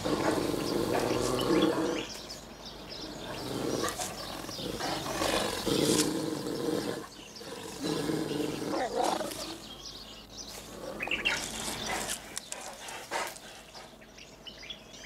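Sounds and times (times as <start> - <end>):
dog growling deeply: 0.0 - 13.8.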